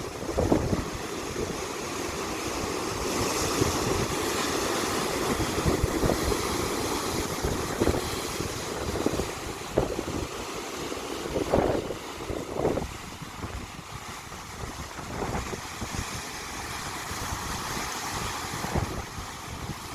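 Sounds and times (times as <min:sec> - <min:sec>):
wind buffeting microphone: 0:00.0 - 0:10.6, 0:11.2 - 0:19.9
ocean surf washing on shore: 0:00.0 - 0:19.9.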